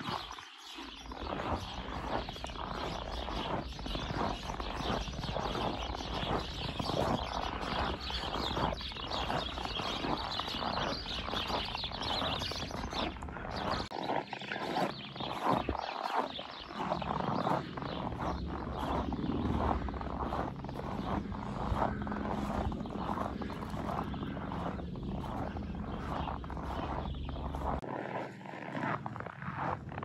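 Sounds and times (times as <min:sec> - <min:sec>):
footsteps crunching on snow: 0:00.0 - 0:30.0.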